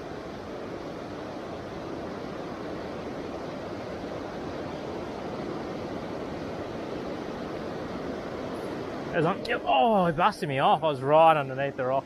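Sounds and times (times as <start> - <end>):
water rushing over stones: 0.0 - 12.0.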